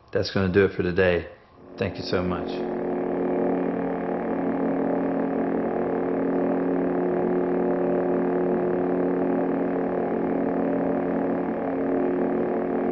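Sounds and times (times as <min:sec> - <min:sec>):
lightsaber idle hum: 0:01.5 - 0:12.9.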